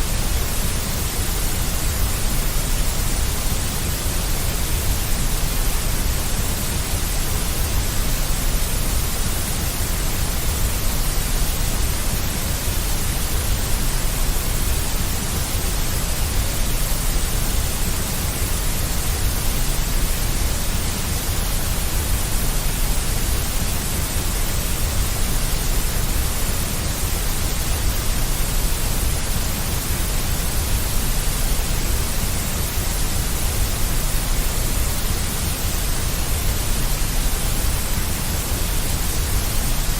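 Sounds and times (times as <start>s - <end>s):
deep white noise: 0.0s - 39.9s.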